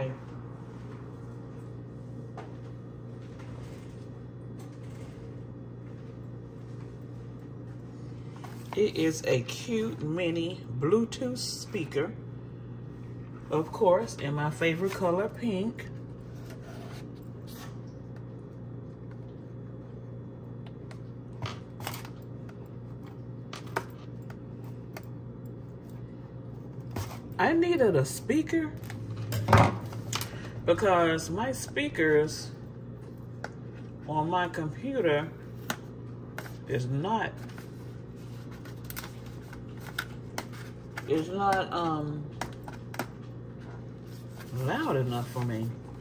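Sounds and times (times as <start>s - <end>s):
low background hum: 0.0s - 46.0s.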